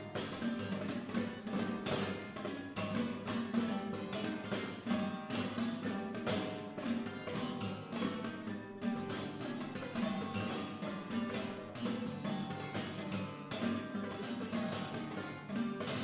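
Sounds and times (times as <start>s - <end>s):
guitars playing plucked notes: 0.0s - 16.0s.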